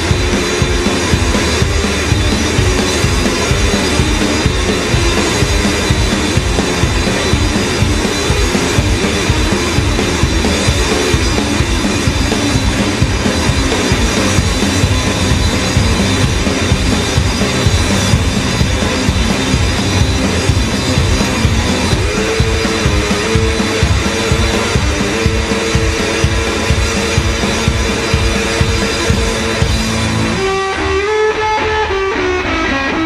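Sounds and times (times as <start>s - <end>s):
drum kit driving beat: 0.0s - 33.0s
electric guitar rock: 0.0s - 33.0s.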